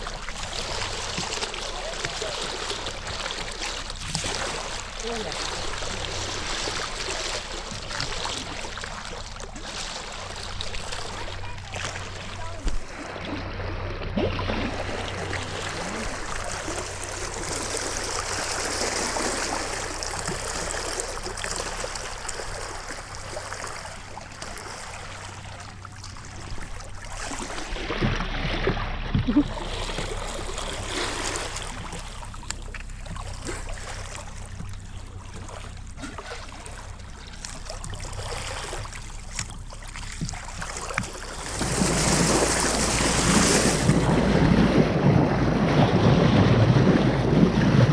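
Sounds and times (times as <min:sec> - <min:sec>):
water rushing and splashing: 0:00.0 - 0:47.9.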